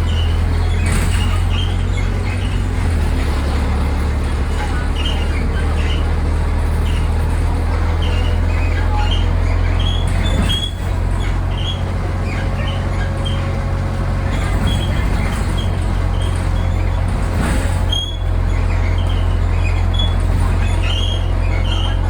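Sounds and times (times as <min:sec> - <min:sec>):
bus body squeaks and creaks: 0:00.0 - 0:22.0
bus engine rumble: 0:00.0 - 0:22.0.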